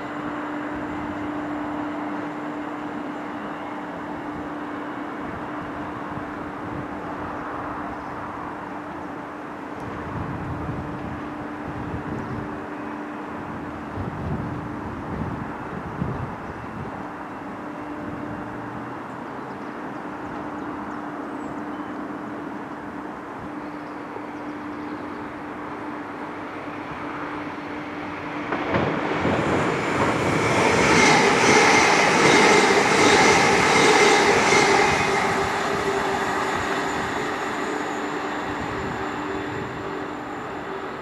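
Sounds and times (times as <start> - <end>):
train passing close: 0.0 - 41.0.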